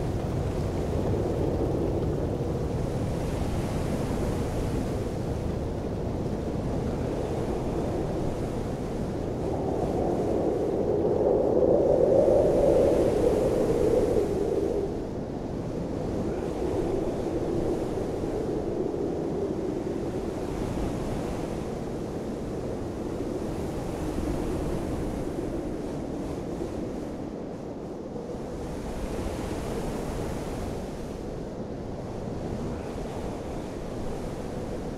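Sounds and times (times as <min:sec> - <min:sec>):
wind gusting on microphone: 0:00.0 - 0:34.9.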